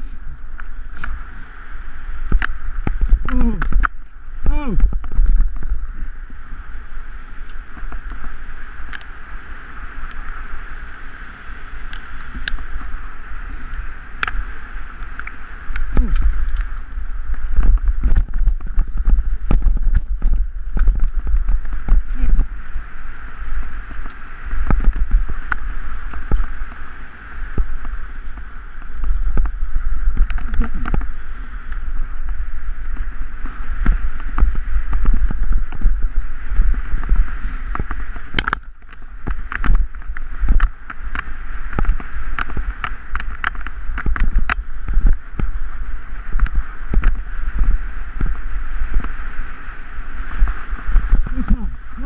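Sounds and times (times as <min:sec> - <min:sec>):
scooter rolling over dirt: 0:00.0 - 0:52.0
wind on microphone: 0:00.0 - 0:52.0.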